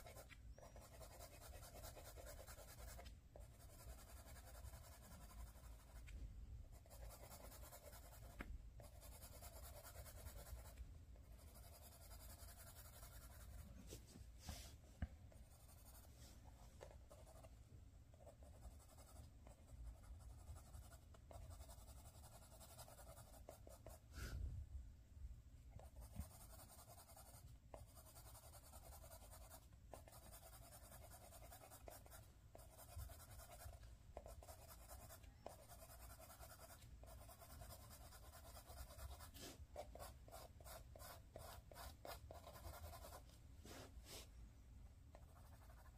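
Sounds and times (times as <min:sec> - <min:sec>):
pencil scratching on paper: 0:00.0 - 0:14.0, 0:15.4 - 0:17.5, 0:18.2 - 0:24.0, 0:25.8 - 0:44.3, 0:45.1 - 0:45.9.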